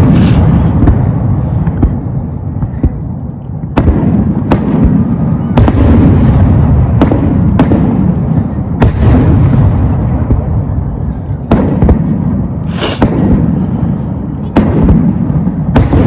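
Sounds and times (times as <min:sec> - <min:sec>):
continuous low rumble: 0:00.0 - 0:16.0
fireworks booming and cracking: 0:00.0 - 0:16.0.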